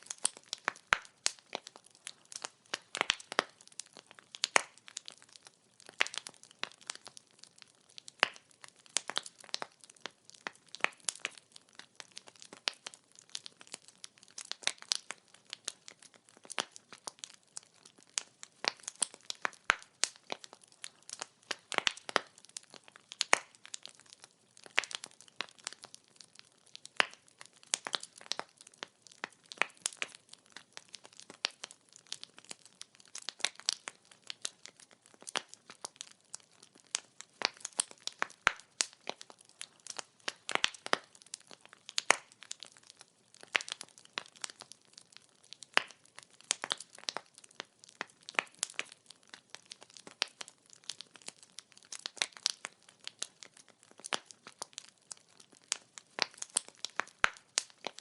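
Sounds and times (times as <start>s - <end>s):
firewood crackling and popping: 0.0s - 58.0s.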